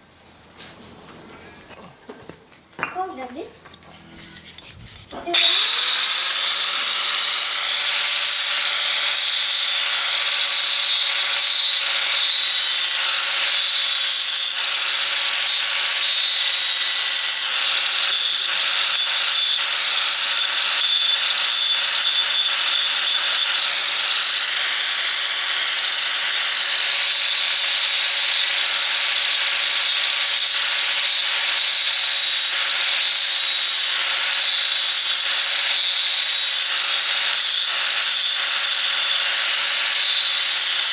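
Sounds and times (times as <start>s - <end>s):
angle grinder cutting brick: 4.2s - 40.9s.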